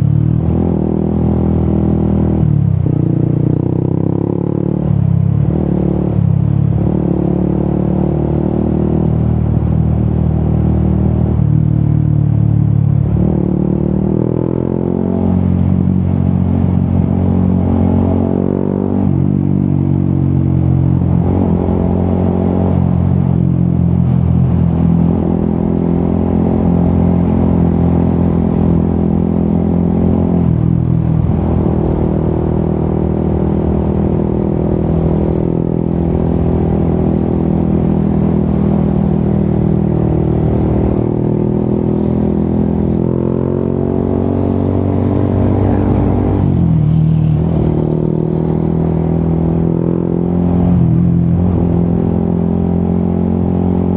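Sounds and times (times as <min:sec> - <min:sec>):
motorcycle engine revving while riding: 0:00.0 - 0:53.9.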